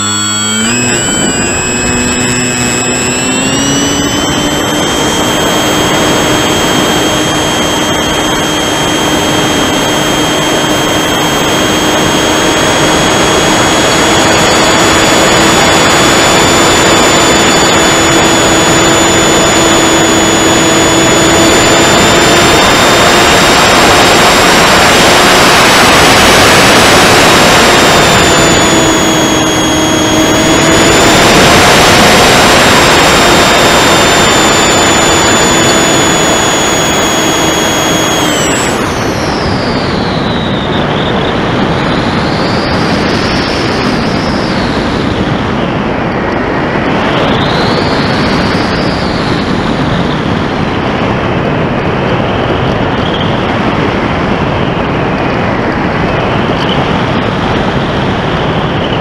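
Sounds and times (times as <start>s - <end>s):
electric motor propeller whine: 0.0s - 59.0s
wind rush: 0.0s - 59.0s.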